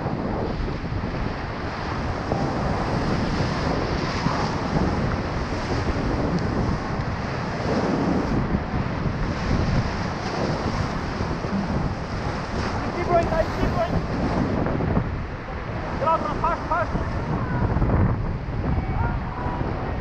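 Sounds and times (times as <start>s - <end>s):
rushing white water: 0.0s - 20.0s
wind buffeting microphone: 0.0s - 20.0s.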